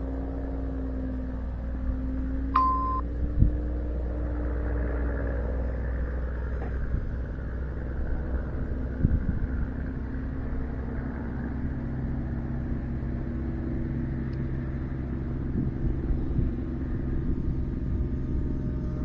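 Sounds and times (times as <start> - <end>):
low hum: 0.0 - 19.0
low mechanical rumble: 0.0 - 19.0.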